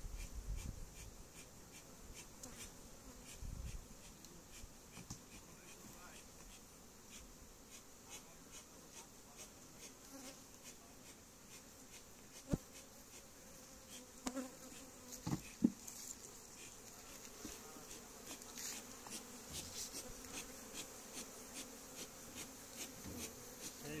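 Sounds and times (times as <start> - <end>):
honeybees buzzing: 0.3 - 24.0.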